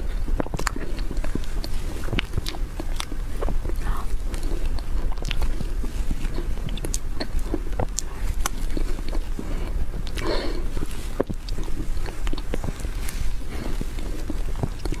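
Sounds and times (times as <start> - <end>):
wet mouth eating sounds: 0.0 - 15.0.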